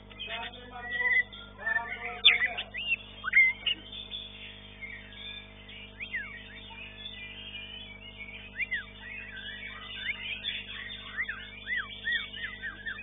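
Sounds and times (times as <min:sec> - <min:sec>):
bird singing whistled notes: 0:00.0 - 0:13.0
steady low hum: 0:00.0 - 0:13.0.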